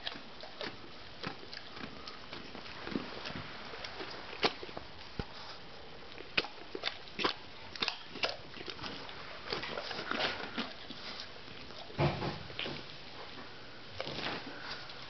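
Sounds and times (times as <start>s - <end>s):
dog crunching a carrot: 0.0s - 15.0s.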